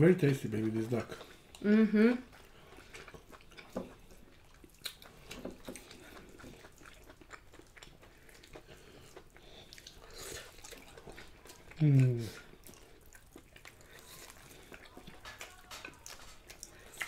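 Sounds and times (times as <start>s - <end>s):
faint chewing and mouth smacks: 0.5s - 17.0s.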